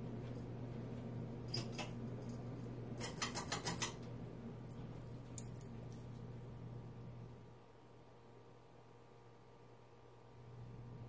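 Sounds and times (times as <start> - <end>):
ceiling fan motor hum: 0.0 - 11.0.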